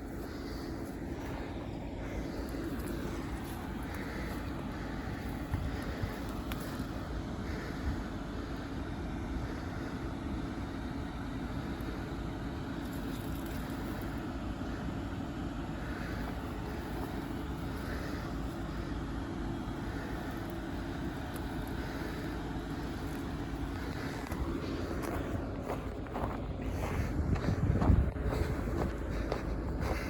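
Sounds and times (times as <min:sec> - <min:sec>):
motor vehicle rumbling: 0:00.0 - 0:30.0.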